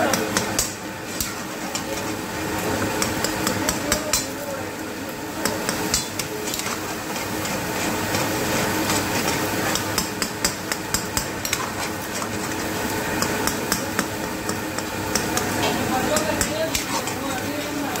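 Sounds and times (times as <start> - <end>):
frying sizzle: 0.0 - 18.0
metal ladle scraping a wok: 0.5 - 3.5, 5.5 - 18.0.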